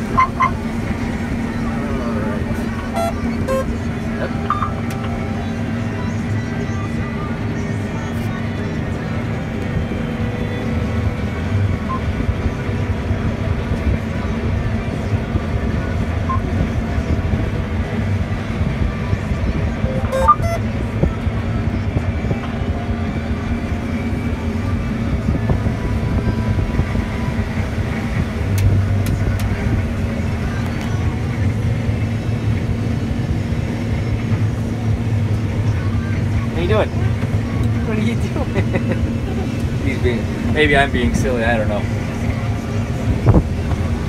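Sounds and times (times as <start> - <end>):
combine harvester droning: 0.0 - 44.0.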